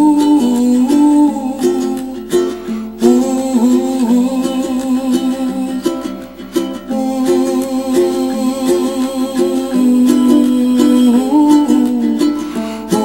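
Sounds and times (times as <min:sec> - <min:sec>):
ukulele playing a tune: 0:00.0 - 0:13.0.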